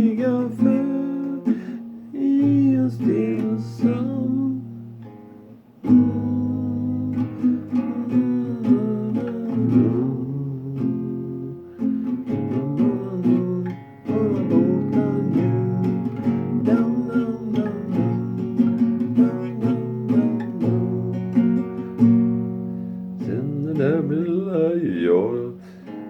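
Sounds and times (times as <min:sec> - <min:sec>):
man singing: 0:00.0 - 0:04.8, 0:05.8 - 0:22.5, 0:23.2 - 0:26.0
acoustic guitar strummed: 0:00.0 - 0:26.0.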